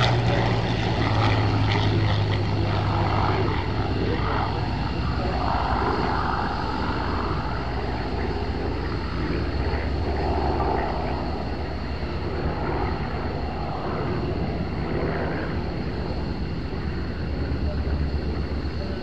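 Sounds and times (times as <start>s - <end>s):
low rumble: 0.0s - 18.8s
propeller plane engine droning: 0.0s - 19.0s.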